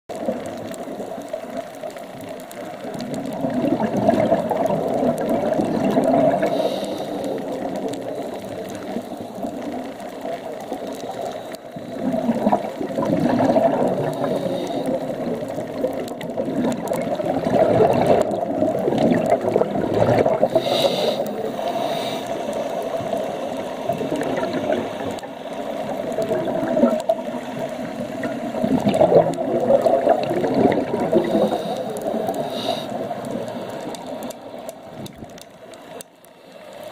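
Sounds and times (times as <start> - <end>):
underwater bubbles gurgling: 0.1 - 36.9.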